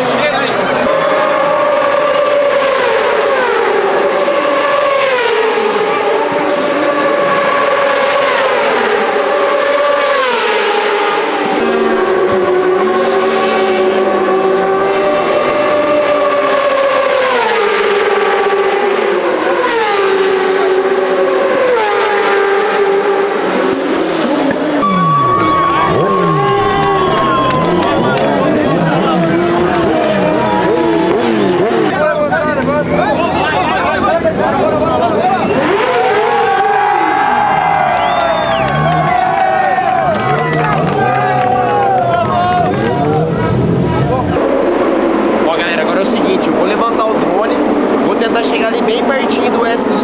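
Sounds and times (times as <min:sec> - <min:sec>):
racing motorcycles passing by: 0:00.0 - 0:50.0.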